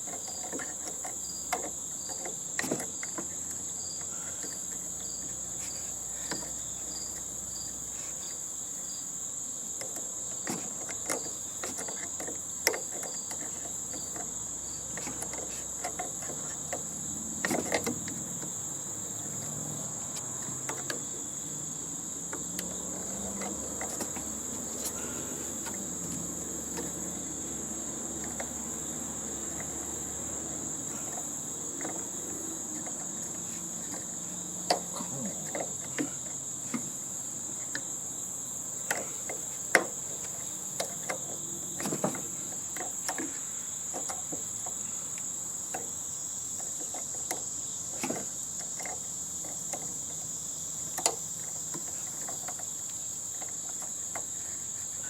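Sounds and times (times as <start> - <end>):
hand tools and metal parts knocking: 0.0 - 8.4, 9.8 - 21.4, 22.2 - 38.0, 38.8 - 55.0
crickets chirring: 0.0 - 55.0.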